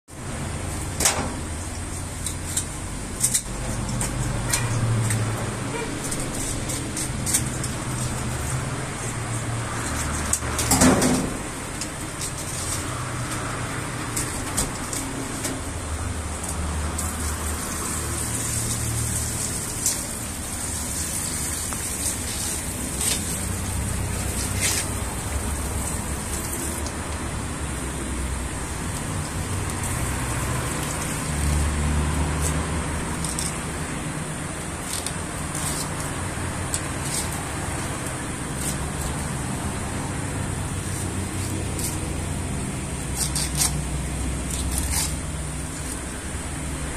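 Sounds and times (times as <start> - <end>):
fish shop background rumble: 0.1 - 46.9
shears trimming fish: 1.6 - 10.7, 11.6 - 28.1, 28.9 - 46.9.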